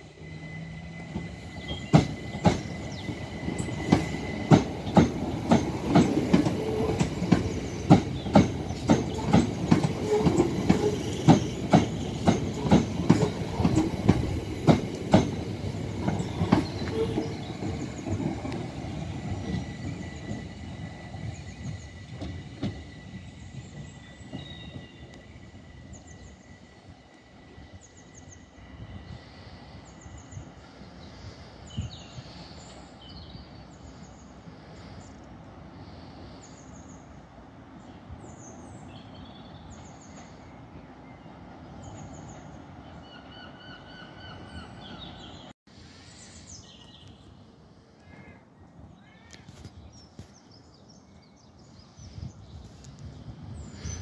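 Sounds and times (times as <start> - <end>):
train rumbling on track: 0.0 - 46.0, 51.0 - 54.0
birds singing: 0.1 - 45.5.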